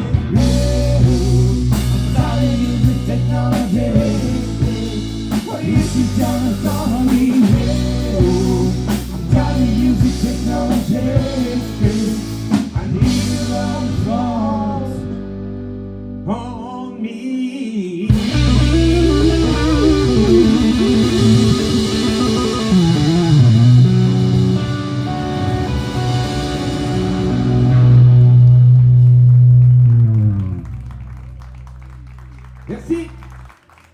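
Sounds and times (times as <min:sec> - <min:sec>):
rock song with singing: 0:00.0 - 0:29.4.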